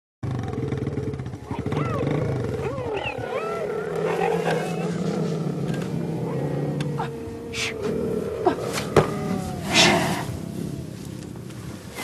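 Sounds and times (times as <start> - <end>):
cheetah growling rumble: 0.2 - 12.0
cheetah high calls: 1.4 - 11.2.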